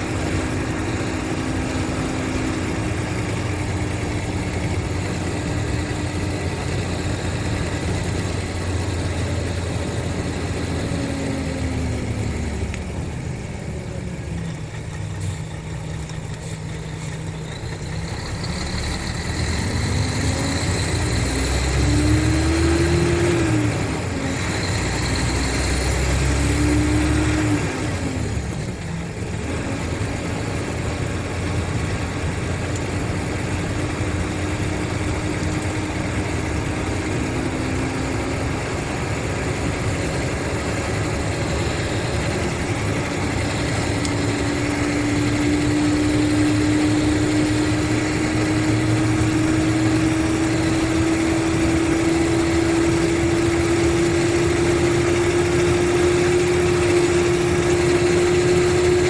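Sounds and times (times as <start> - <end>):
coach diesel engine whining: 0.0 - 59.0.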